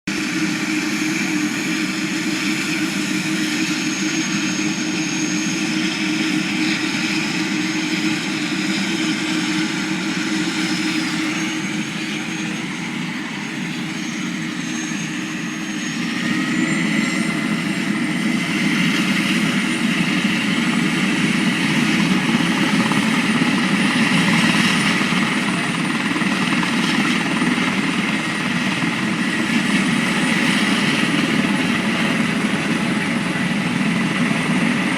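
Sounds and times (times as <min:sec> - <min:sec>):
helicopter turbine whine and rotor: 0:00.1 - 0:34.9.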